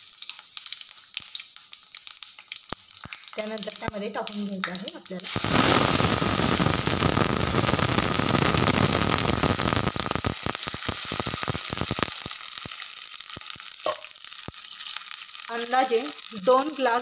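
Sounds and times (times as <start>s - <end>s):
oil crackling pops: 0.0s - 17.0s
water sizzling in hot oil: 0.0s - 17.0s.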